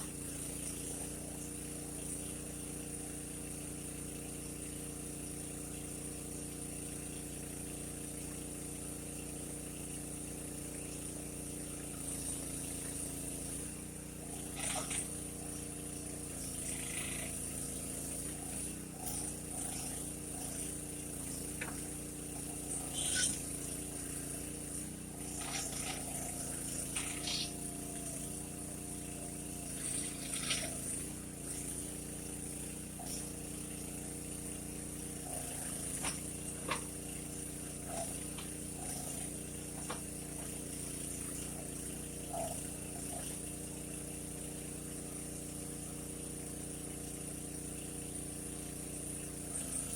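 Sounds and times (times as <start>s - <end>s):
backhoe engine running: 0.0s - 49.9s.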